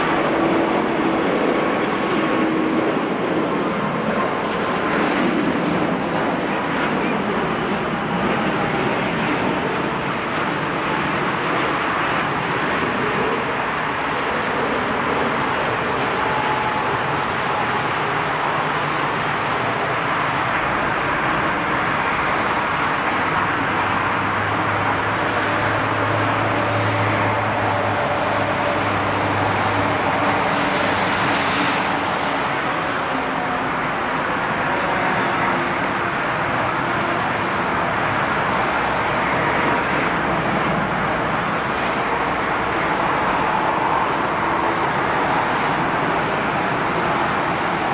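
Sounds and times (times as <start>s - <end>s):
jet engines rumbling: 0.0s - 47.9s.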